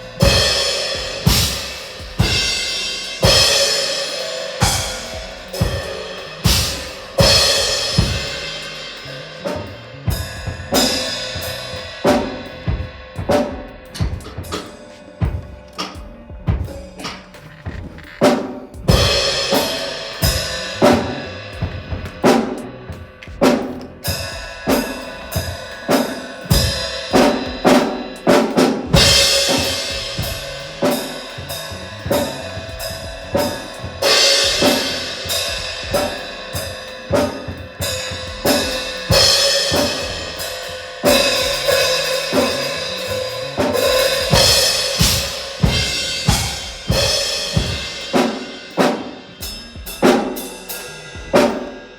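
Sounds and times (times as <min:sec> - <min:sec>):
drum kit beat: 0:00.0 - 0:51.9
held musical tones: 0:00.0 - 0:51.9.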